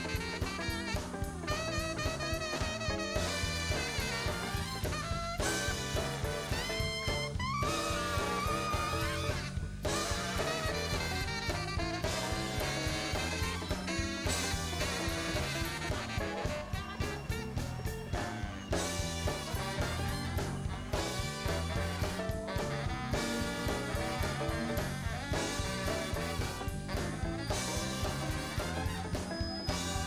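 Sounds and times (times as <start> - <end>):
band music: 0.0 - 30.0
drum and bass beat: 0.0 - 30.0.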